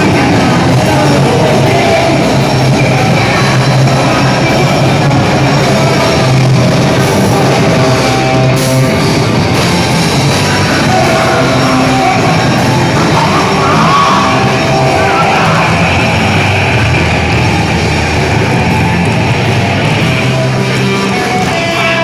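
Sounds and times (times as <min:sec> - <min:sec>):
heavy rock music with electric guitar: 0:00.0 - 0:22.0.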